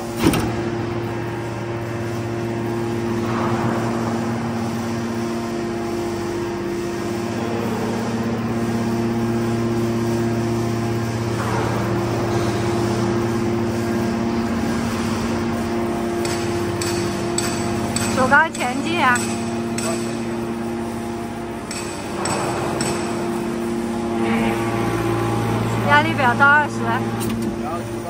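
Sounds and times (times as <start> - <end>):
hydraulic power unit humming: 0.0 - 28.0.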